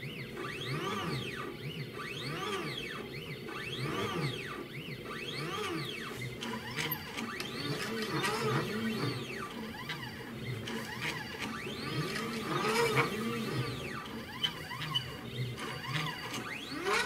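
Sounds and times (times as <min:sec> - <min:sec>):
stepper motors whining: 0:00.0 - 0:17.0.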